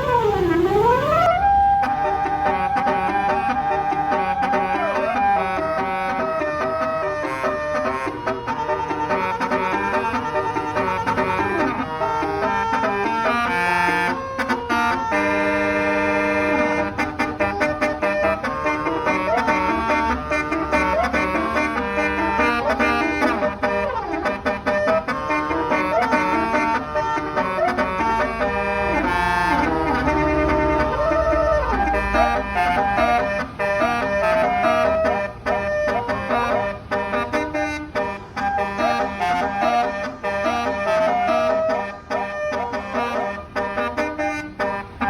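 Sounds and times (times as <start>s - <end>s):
bus horn playing melody: 0.0s - 45.0s.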